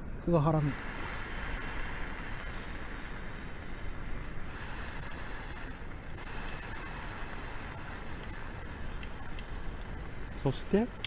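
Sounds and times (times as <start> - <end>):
steak sizzling on a grill: 0.6 - 11.0.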